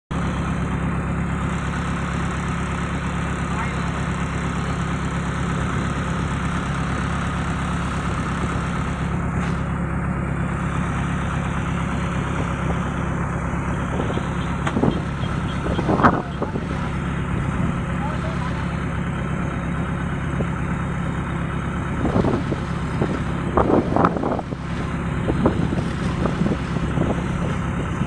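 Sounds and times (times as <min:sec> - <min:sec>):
combine harvester running: 0:00.1 - 0:28.0.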